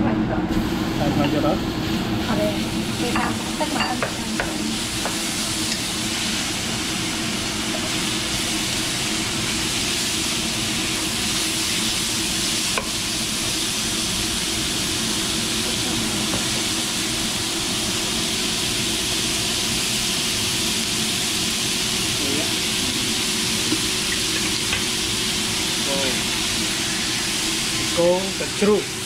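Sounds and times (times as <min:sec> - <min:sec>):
food sizzling in a hot pan: 0:00.6 - 0:29.0.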